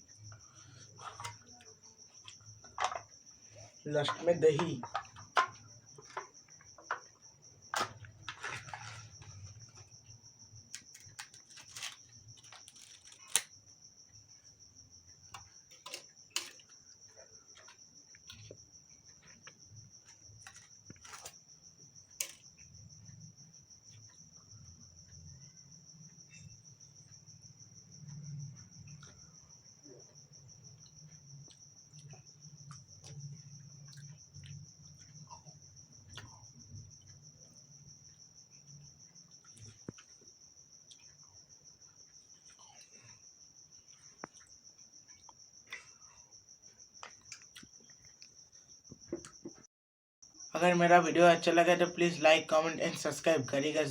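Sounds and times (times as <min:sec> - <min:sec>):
crickets chirring: 0:00.0 - 0:53.9.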